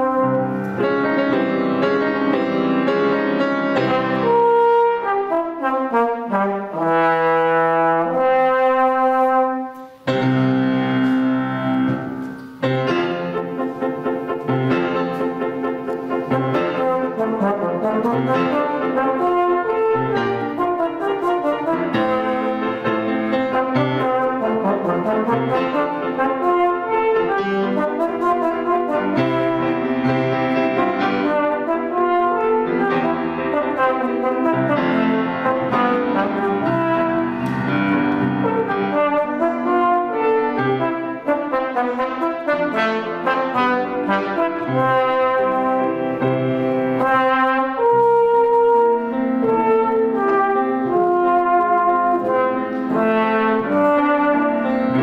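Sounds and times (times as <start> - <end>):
piano accompaniment: 0.0 - 55.0
trombone melody: 0.0 - 55.0.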